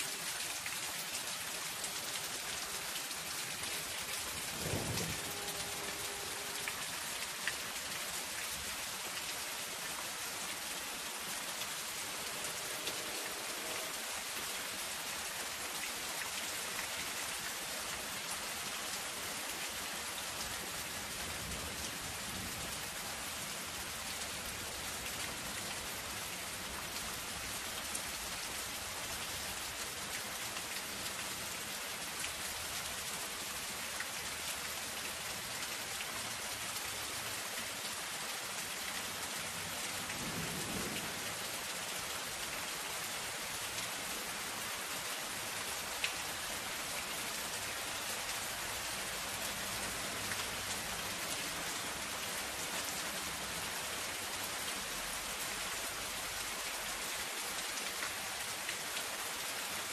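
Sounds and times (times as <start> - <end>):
rain on metal sheeting: 0.0 - 59.9.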